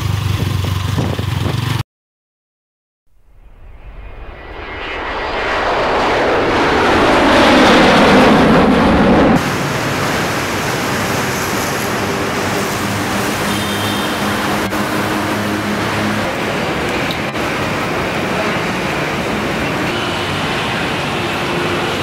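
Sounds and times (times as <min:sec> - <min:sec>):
jet airliner rushing past: 0:03.2 - 0:22.0.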